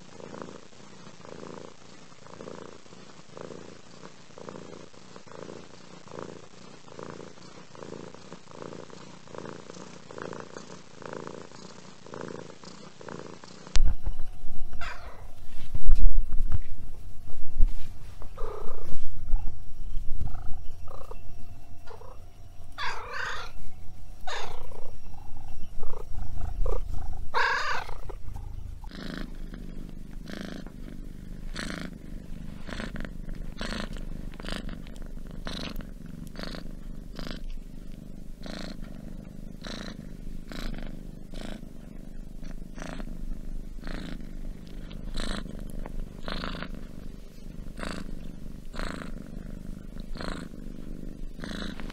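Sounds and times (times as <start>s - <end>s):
cat purring: 0.0s - 51.9s.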